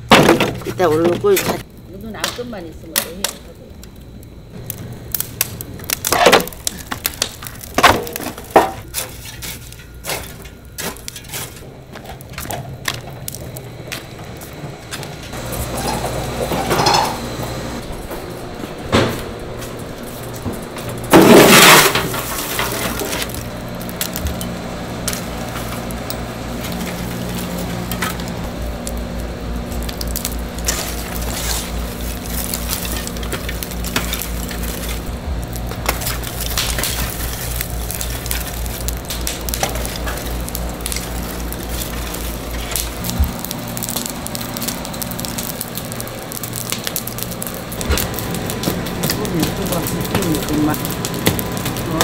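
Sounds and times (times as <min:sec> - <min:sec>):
steady low hum: 0:00.0 - 0:52.0
wood fire crackling and popping: 0:00.0 - 0:52.0
shovel scraping charcoal: 0:04.7 - 0:17.4, 0:19.6 - 0:52.0.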